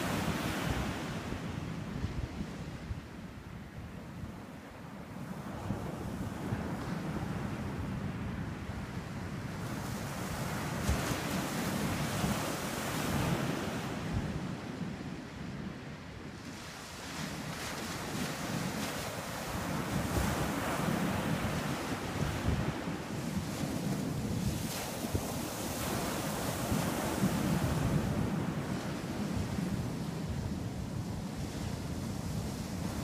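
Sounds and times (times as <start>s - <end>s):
waves breaking on a beach: 0.0s - 33.0s
wind buffeting microphone: 0.0s - 33.0s.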